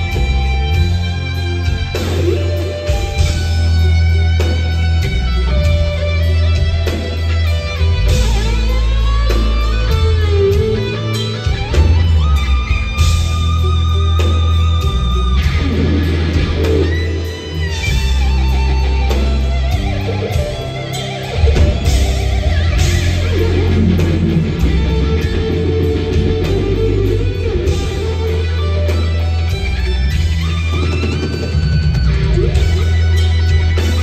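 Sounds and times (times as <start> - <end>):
bass and drums with cymbals: 0.0 - 34.0
electric guitar lead: 0.0 - 34.0.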